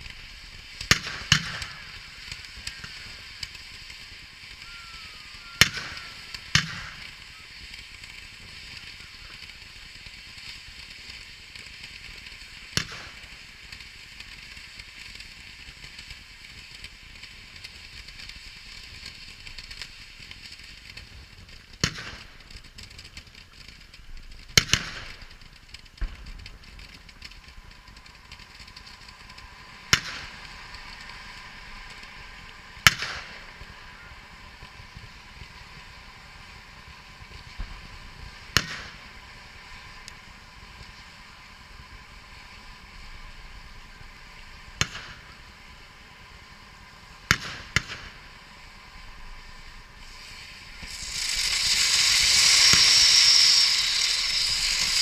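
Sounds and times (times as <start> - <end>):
firework fountains hissing: 0.0 - 55.0
sharp firework bangs: 0.0 - 55.0
small firework pops: 0.0 - 55.0.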